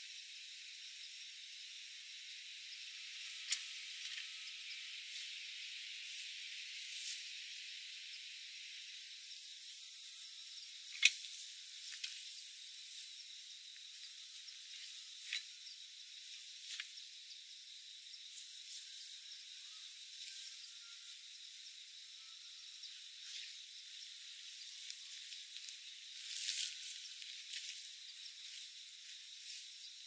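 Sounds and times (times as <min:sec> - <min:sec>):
faint insect tones: 0:00.0 - 0:30.0
steady high hiss: 0:00.0 - 0:30.0.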